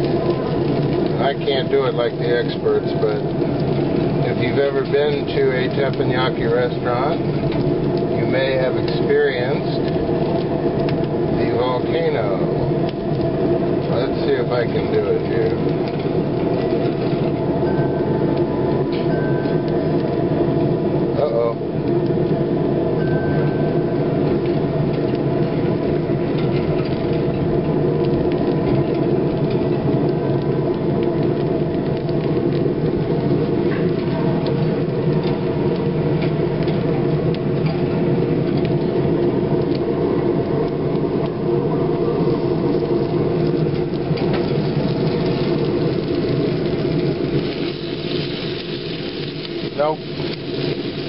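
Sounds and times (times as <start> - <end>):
mechanical hum and whir: 0.0 - 51.0.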